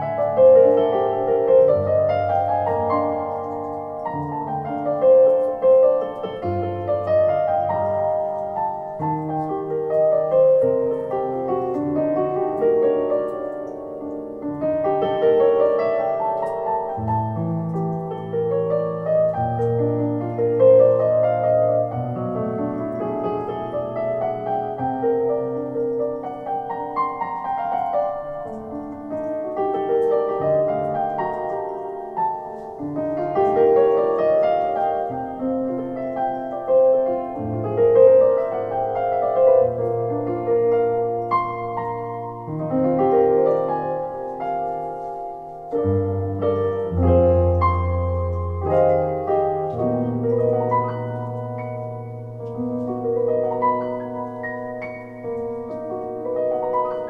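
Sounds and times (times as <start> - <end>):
deep bass piano notes: 0.0 - 57.0
piano chords and melody: 0.0 - 57.0.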